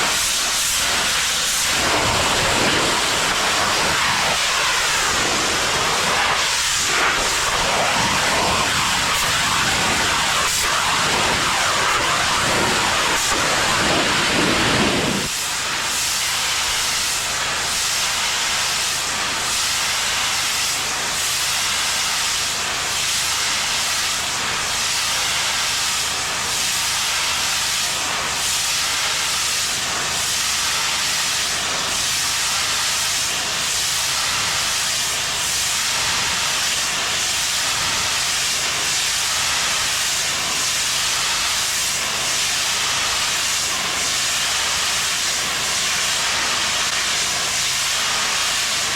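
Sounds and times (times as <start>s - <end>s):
pressure washer spray hiss: 0.0s - 48.9s.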